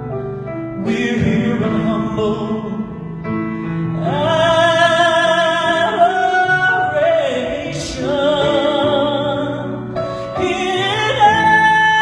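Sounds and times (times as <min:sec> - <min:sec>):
man singing worship song: 0:00.8 - 0:03.3, 0:03.9 - 0:12.0.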